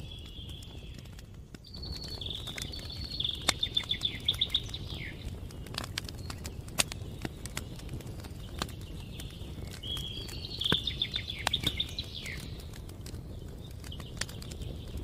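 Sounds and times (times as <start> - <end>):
campfire crackling and popping: 0.0 - 15.0
songbird singing: 0.0 - 15.0.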